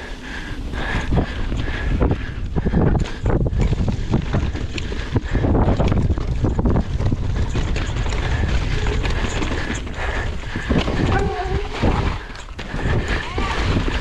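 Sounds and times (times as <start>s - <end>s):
wind buffeting microphone: 0.0s - 14.0s
bike clattering over bumps: 0.6s - 14.0s
tyre rumble: 0.7s - 14.0s.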